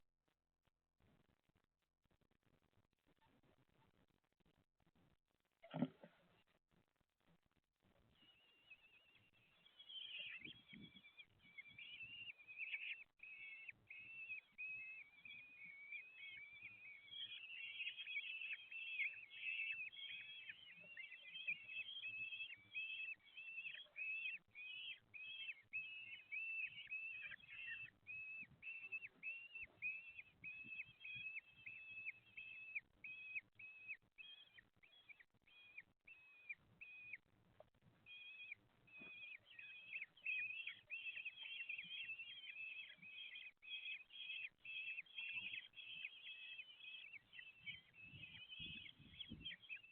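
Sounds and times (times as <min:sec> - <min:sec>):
kestrel chicks begging calls: 0:08.2 - 0:37.2, 0:38.1 - 0:49.9.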